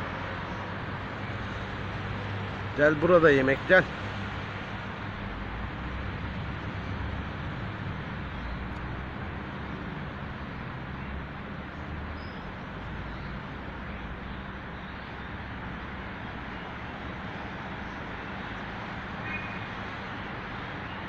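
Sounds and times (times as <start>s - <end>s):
street traffic engine hum: 0.0s - 21.0s.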